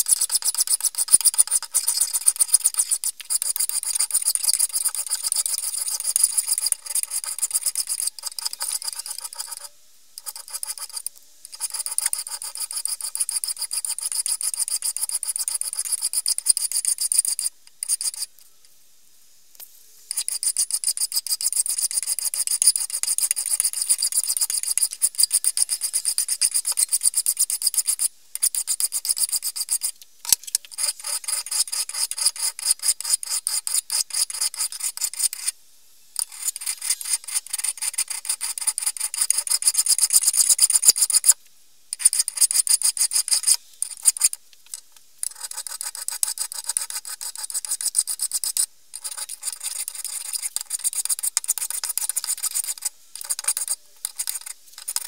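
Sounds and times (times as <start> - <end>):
hand file rasping on steel: 0.0 - 18.3, 20.1 - 30.0, 30.7 - 35.5, 36.2 - 41.3, 42.0 - 44.4, 45.2 - 55.0.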